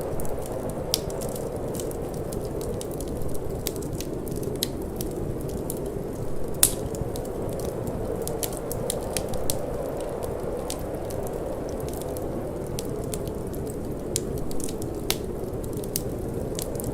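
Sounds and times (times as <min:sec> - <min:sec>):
low rush of wind: 0:00.0 - 0:16.9
wood fire crackling: 0:00.0 - 0:16.9.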